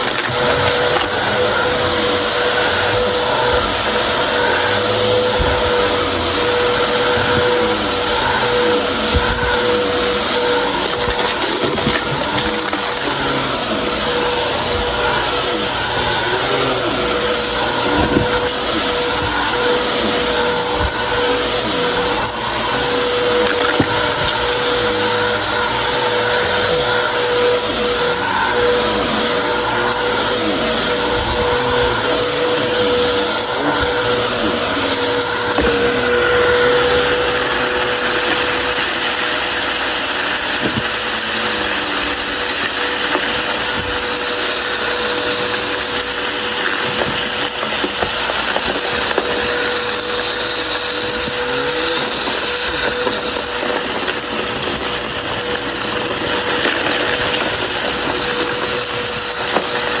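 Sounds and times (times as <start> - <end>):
debris being sucked up: 0.0 - 60.0
vacuum cleaner running: 0.0 - 60.0.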